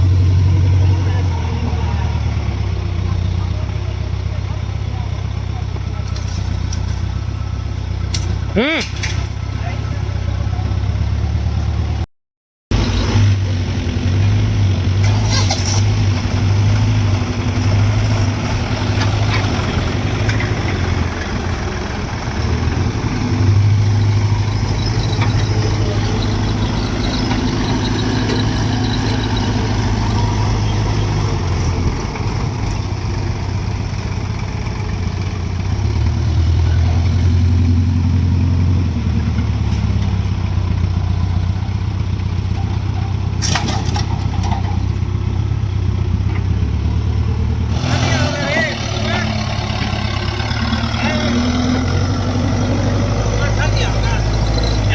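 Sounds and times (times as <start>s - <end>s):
diesel engines running: 0.0s - 12.1s, 12.7s - 54.9s.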